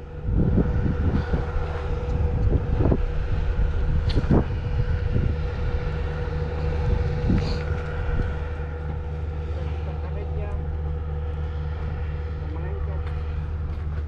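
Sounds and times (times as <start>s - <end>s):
steady motor hum: 0.0s - 14.0s
wind rumbling on microphone: 0.0s - 14.0s.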